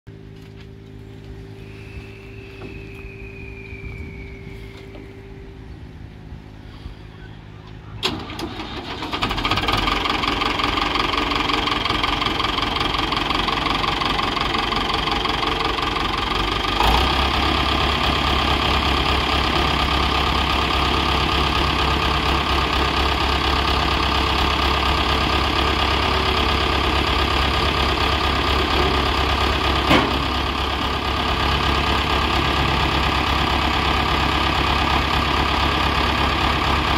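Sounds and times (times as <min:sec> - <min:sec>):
tractor diesel engine: 0:00.1 - 0:36.9.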